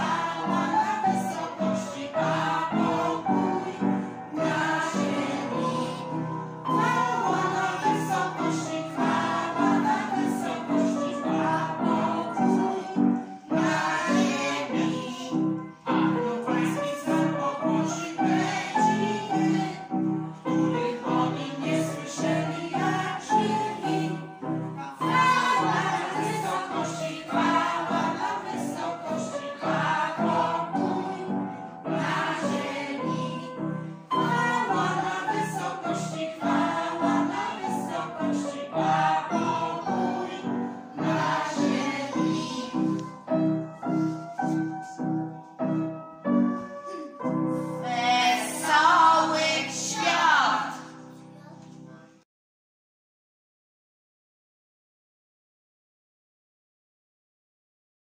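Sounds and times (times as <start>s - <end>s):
children's choir singing: 0.0s - 45.0s, 45.6s - 51.5s
piano chords: 0.0s - 52.1s.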